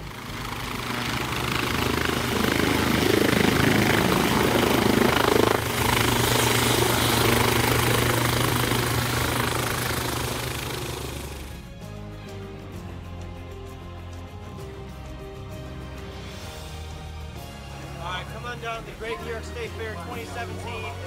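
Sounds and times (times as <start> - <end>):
helicopter landing: 0.0 - 21.0.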